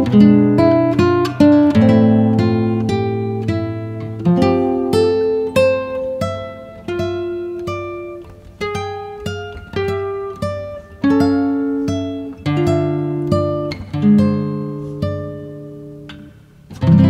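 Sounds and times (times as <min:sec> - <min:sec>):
acoustic guitar plucked melody: 0:00.0 - 0:17.0.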